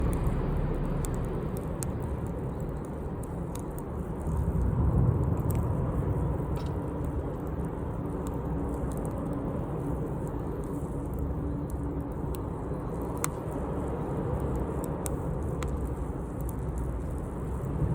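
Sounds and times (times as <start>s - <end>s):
crackles and pops of burning wood: 0.0s - 17.9s
fire low rumble: 0.0s - 17.9s.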